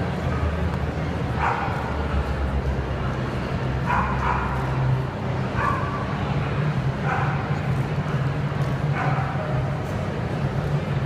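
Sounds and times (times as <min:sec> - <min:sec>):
crowded hall background noise: 0:00.0 - 0:11.0.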